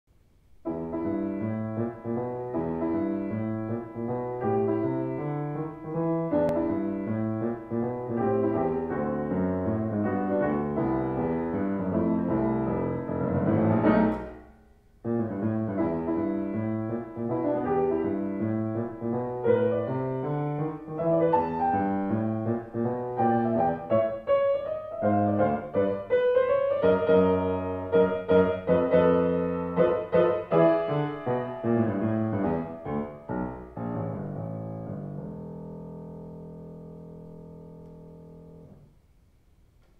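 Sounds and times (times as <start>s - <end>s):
solo swing piano: 0.4s - 39.1s.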